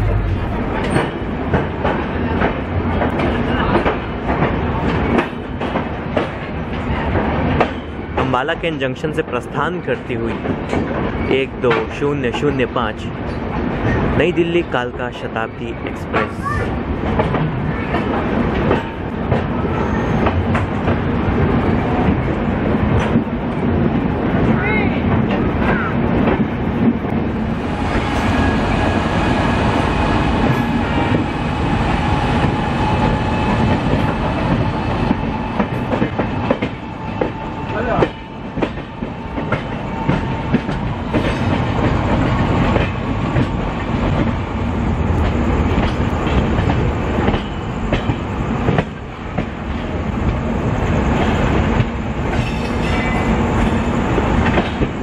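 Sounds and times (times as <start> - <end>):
train wheels clickety-clack: 0.0 - 55.0.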